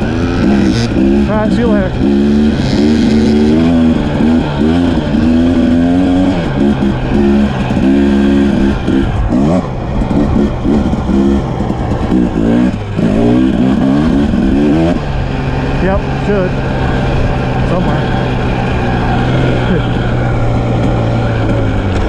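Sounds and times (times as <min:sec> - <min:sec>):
dirt bike engine revving: 0:00.0 - 0:22.0
wind rushing over microphone: 0:00.0 - 0:22.0.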